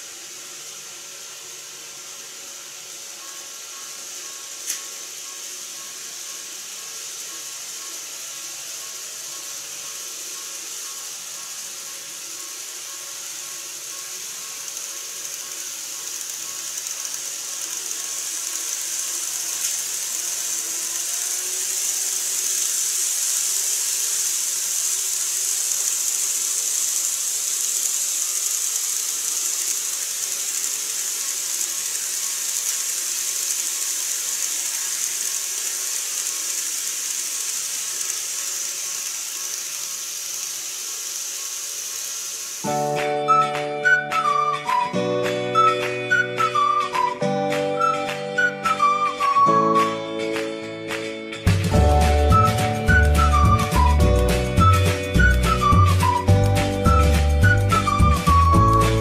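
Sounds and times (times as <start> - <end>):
model train motor whirring: 0.0 - 49.9, 51.5 - 59.0.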